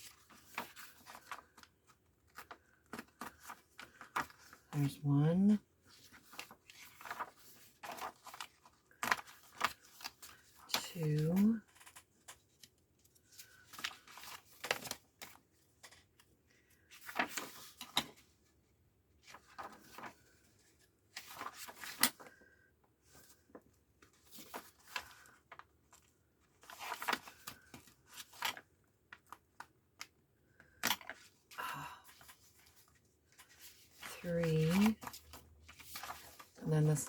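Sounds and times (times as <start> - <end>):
paper rustling and crackling: 0.0 - 5.0, 5.8 - 18.6, 19.2 - 37.0.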